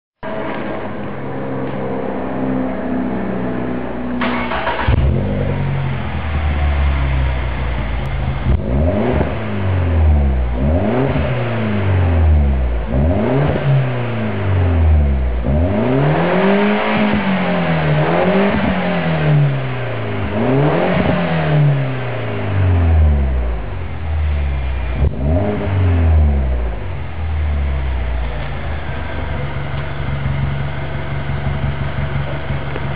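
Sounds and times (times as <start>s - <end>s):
car engine revving: 0.2s - 32.9s.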